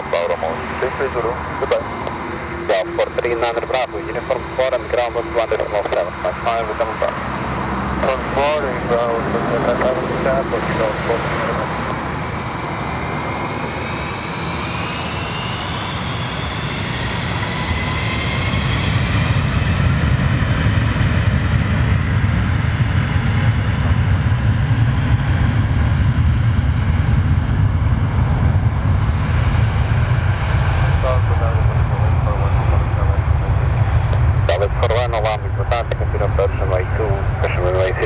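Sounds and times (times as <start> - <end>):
jet engines spooling up: 0.0 - 21.0, 27.1 - 38.0.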